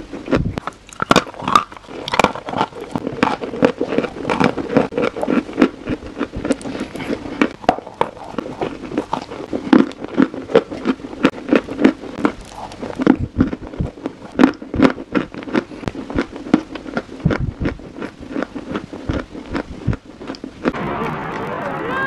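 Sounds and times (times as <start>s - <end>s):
crisp crunching while chewing: 0.0s - 21.2s.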